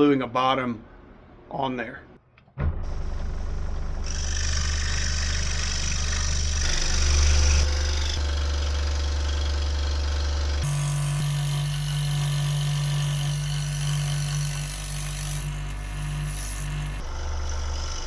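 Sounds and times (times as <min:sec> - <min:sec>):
machine motor humming: 0:02.6 - 0:18.0.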